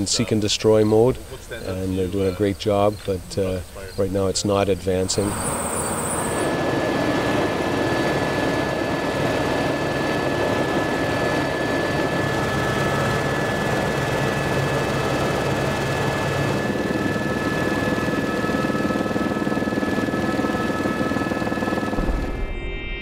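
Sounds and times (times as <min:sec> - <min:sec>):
helicopter rotor and engine noise: 0:00.0 - 0:22.6
thin constant whine: 0:00.0 - 0:23.0.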